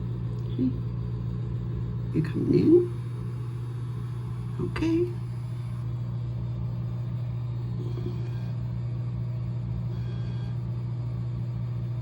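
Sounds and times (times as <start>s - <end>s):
low hum with rumble: 0.0s - 12.0s.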